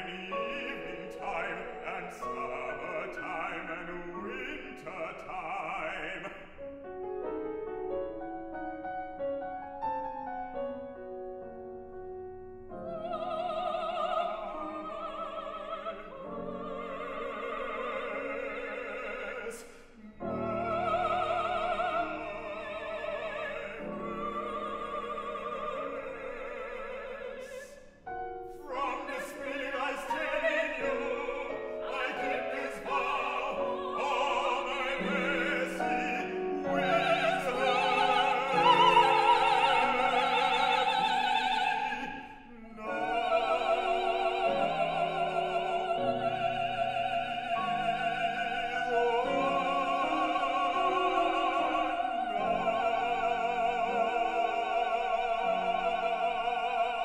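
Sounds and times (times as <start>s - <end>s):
man and woman singing opera: 0.0s - 6.6s, 12.8s - 57.0s
piano accompaniment: 0.0s - 19.2s, 28.0s - 57.0s.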